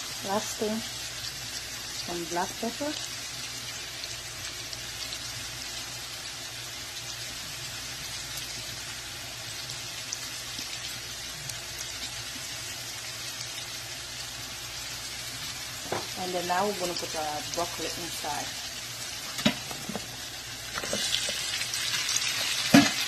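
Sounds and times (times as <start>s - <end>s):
sausage sizzling in a frying pan: 0.0s - 23.0s.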